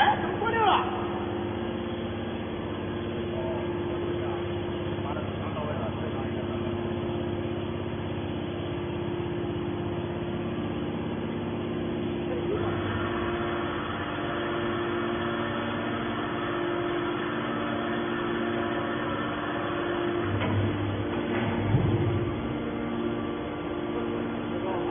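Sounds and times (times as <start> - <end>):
hydraulic pump motor humming: 0.0 - 24.9.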